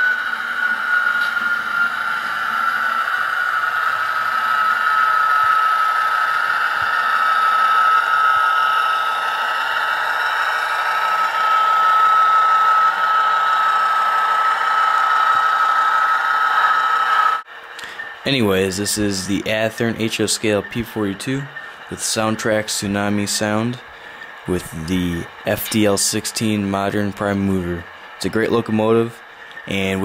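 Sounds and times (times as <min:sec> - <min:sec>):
constant high whine: 0:00.0 - 0:30.0
diesel engine sound from small speaker: 0:00.0 - 0:30.0.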